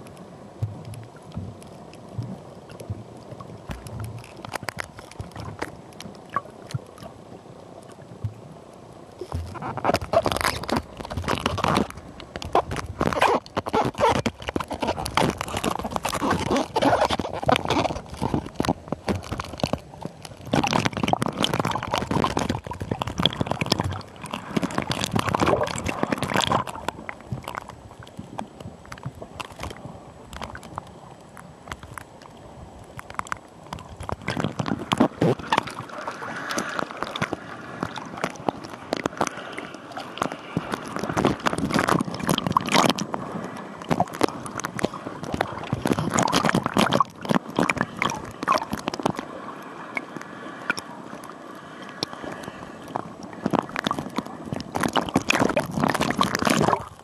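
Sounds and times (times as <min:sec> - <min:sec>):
water bubbling and gurgling: 0:00.0 - 0:57.0.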